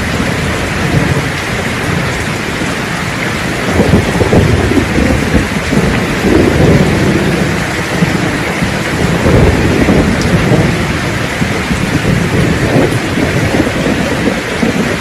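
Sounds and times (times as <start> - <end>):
heavy rain hissing: 0.0 - 15.0
thunder rumbling: 0.0 - 15.0.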